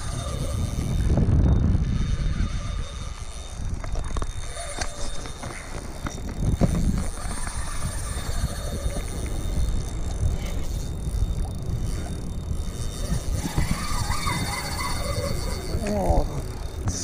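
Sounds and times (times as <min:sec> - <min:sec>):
fishing reel clicks and knocks: 0:00.0 - 0:17.0
wind rumble on microphone: 0:00.0 - 0:17.0.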